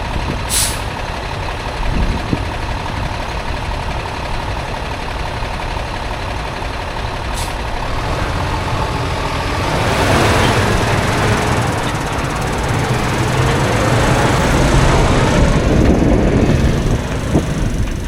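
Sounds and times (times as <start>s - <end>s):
heavy vehicle rumble: 0.0s - 18.0s.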